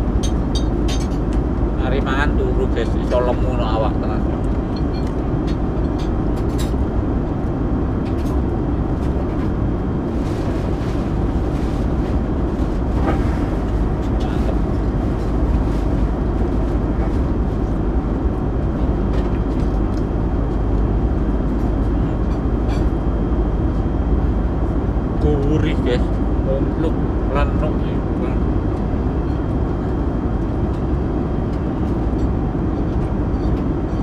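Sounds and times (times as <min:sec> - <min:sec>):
airliner engine and airflow noise: 0:00.0 - 0:34.0.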